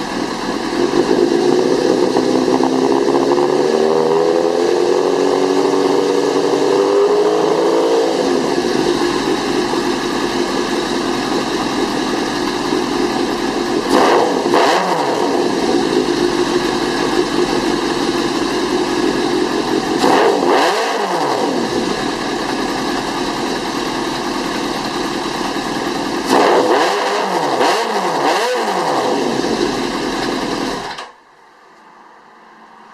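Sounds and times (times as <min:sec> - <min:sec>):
motorcycle engine idling: 0:00.0 - 0:26.8, 0:29.0 - 0:31.0.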